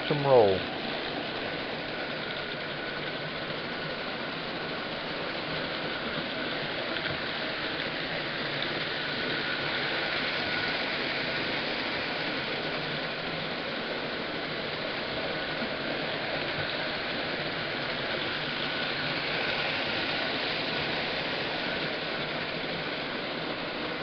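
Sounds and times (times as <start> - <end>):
faint steady whine: 0.0 - 24.0
toy train wheels and motors whirring: 4.6 - 24.0.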